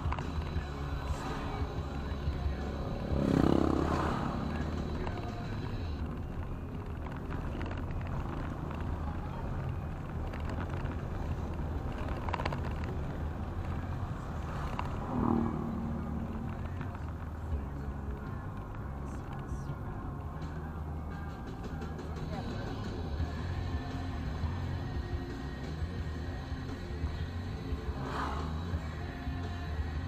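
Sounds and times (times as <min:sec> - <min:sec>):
car cabin road hum: 0:00.0 - 0:30.0.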